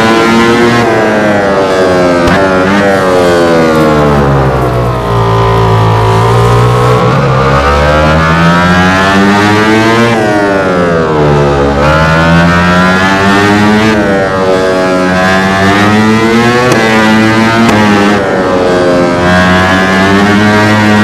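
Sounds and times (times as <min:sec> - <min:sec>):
racing motorcycle engine revving: 0:00.0 - 0:21.0.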